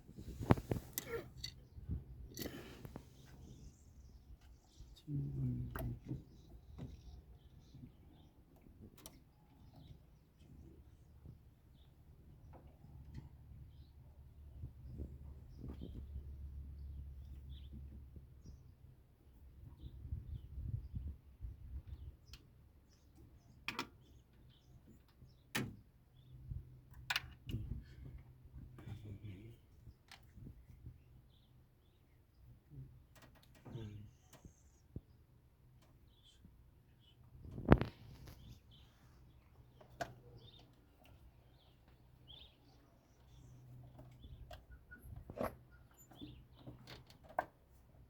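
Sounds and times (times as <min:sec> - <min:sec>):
small birds chirping: 0:00.1 - 0:48.0.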